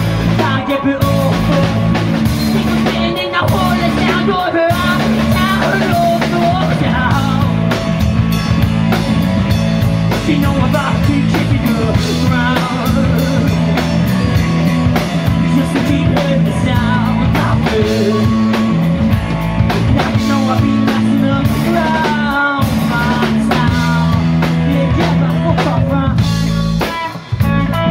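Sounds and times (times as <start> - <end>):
man singing: 0.0 - 8.1, 9.8 - 27.9
live rock band playing: 0.0 - 27.9.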